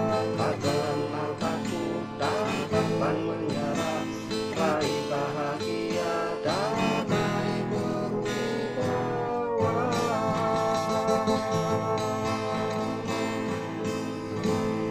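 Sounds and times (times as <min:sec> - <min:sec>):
instrumental melody line: 0:00.0 - 0:14.9
strummed guitar: 0:00.0 - 0:14.9.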